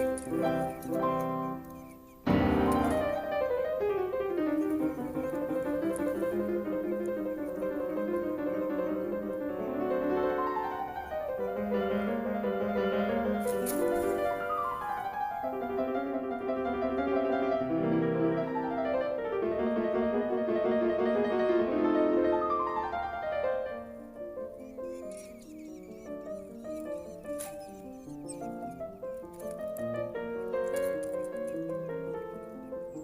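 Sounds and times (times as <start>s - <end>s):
background piano music: 0.0s - 33.0s.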